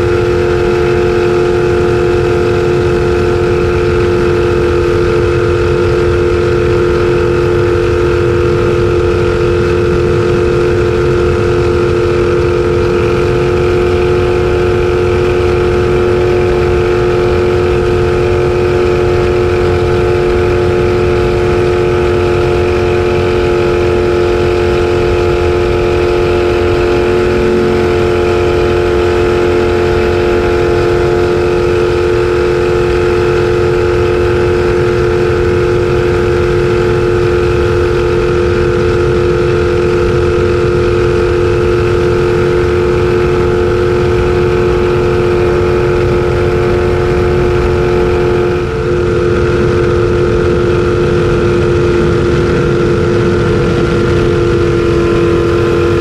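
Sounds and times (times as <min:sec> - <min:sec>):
jet boat engine running: 0:00.0 - 0:56.0.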